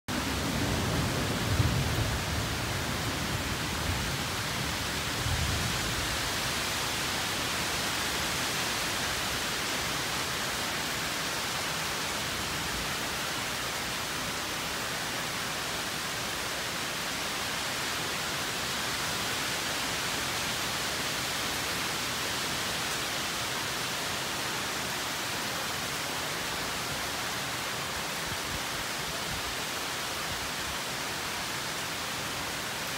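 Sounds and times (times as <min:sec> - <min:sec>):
hard rain hissing: 0:00.1 - 0:32.9.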